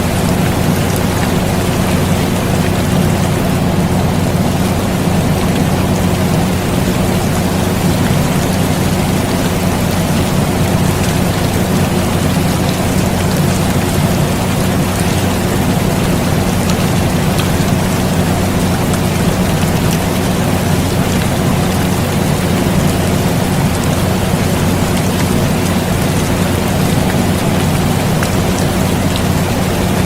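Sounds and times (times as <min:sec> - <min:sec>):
air conditioner humming: 0:00.0 - 0:30.0
rain pattering: 0:00.0 - 0:30.0.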